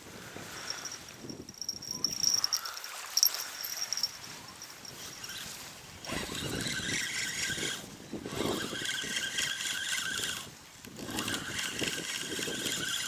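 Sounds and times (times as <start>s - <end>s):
fishing reel whirring: 1.6s - 4.2s, 4.9s - 13.0s.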